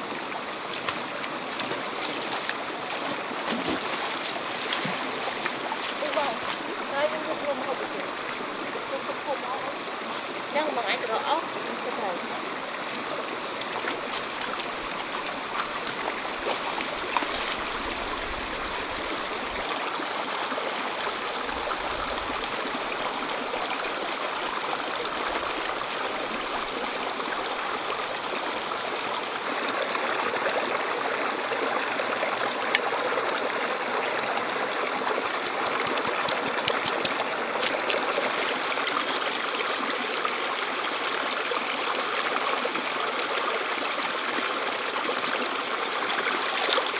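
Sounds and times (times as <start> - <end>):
stream running and trickling: 0.0 - 46.9
water splashes and drips: 0.0 - 46.9.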